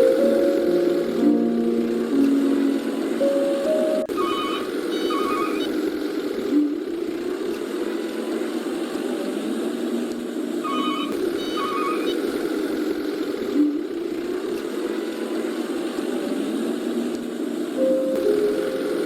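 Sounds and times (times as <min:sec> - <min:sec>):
engine-like drone: 0:00.0 - 0:19.0.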